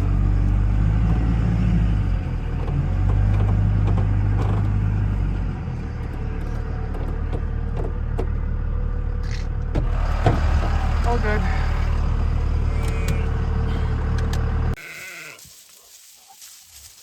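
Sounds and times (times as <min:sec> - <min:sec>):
engine running low hum: 0:00.0 - 0:14.8.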